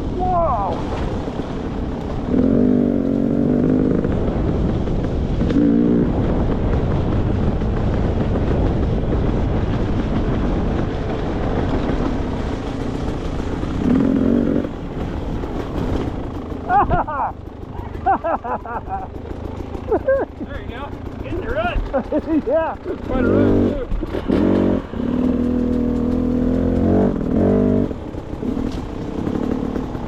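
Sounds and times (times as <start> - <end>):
dirt bike engine running: 0.0 - 30.0
steady rush of noise: 0.0 - 30.0.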